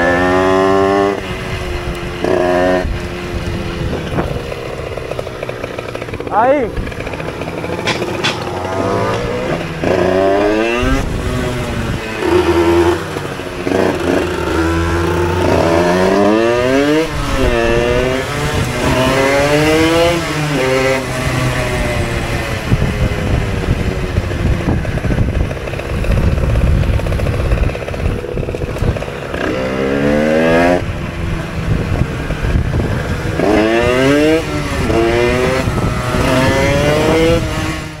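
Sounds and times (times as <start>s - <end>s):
moped engine revving: 0.0s - 38.0s
road and wind noise: 0.0s - 38.0s.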